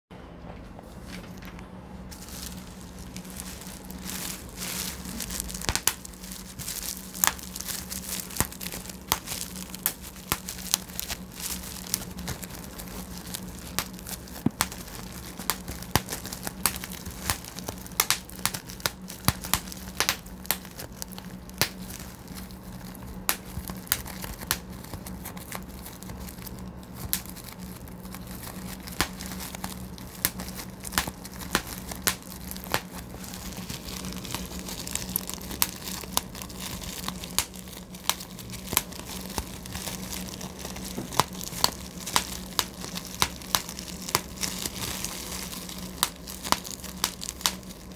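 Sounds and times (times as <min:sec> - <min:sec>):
low steady hum: 0:00.1 - 0:47.9
plastic sheet crinkling: 0:00.9 - 0:47.9
bubble wrap popping: 0:02.1 - 0:47.9.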